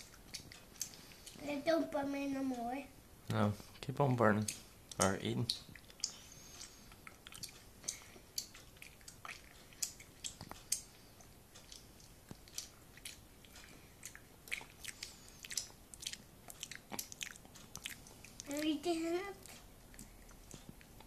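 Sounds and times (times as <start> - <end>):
boy chewing gum: 0.0 - 2.8, 4.4 - 21.0.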